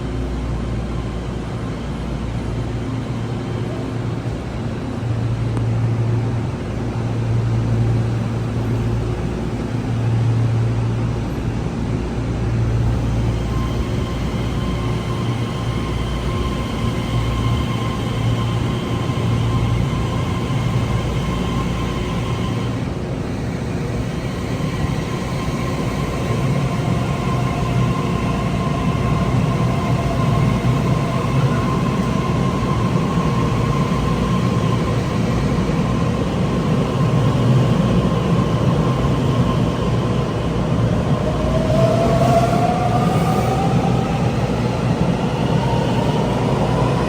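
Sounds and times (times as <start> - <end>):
train whine: 0.0 - 47.0.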